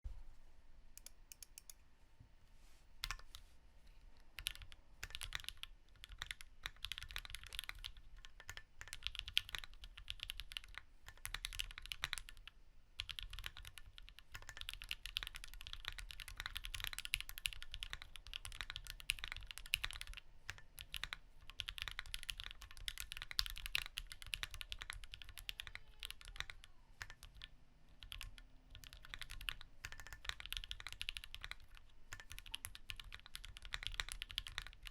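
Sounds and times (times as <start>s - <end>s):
typing on mechanical keyboard: 4.4s - 34.9s.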